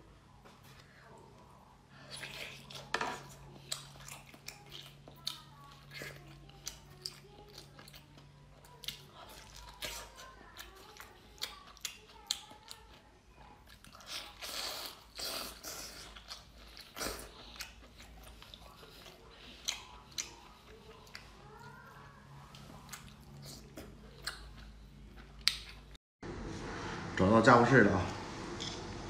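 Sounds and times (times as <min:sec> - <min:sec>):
chewing and sucking: 0:02.0 - 0:26.0.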